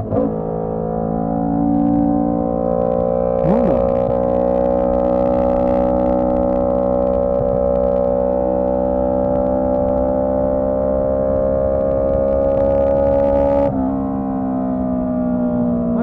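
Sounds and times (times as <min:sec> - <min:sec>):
motorcycle engine revving up: 0:00.0 - 0:14.2.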